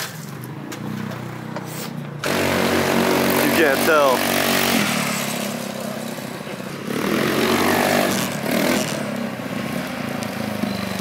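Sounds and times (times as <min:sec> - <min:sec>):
scooter engine running: 0:02.1 - 0:11.0.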